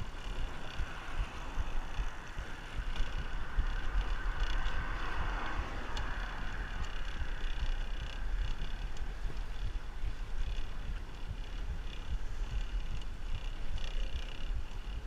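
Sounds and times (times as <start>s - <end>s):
bicycle rolling noise: 0.0s - 15.0s
wind buffeting microphone: 0.0s - 15.0s.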